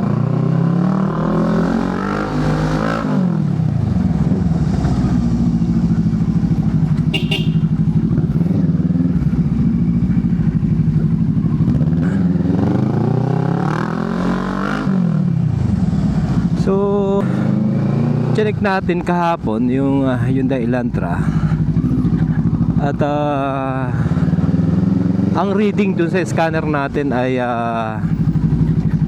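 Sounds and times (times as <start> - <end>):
motorcycle engine accelerating: 0.0 - 18.7, 21.2 - 29.0.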